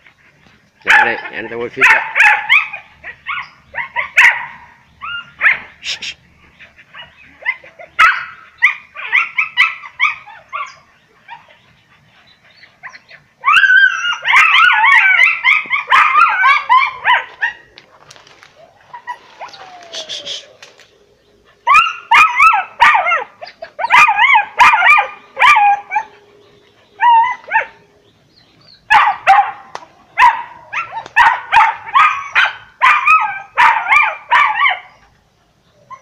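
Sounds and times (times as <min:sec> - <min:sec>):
dogs yelping and barking: 0:00.0 - 0:36.0.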